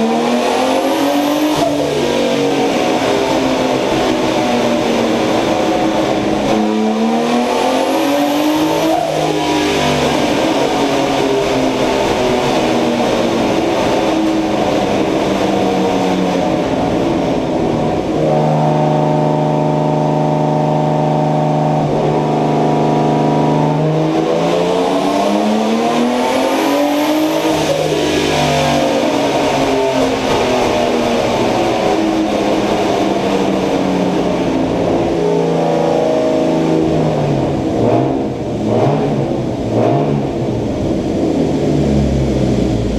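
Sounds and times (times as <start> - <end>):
car engine misfiring and revving: 0.0 - 42.9.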